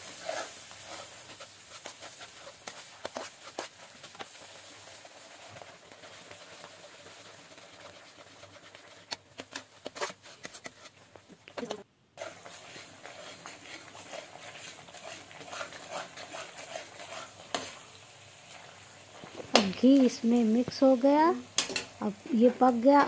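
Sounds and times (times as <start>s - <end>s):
frying sizzle: 0.0s - 23.0s
spatula scraping a pan: 0.0s - 23.0s.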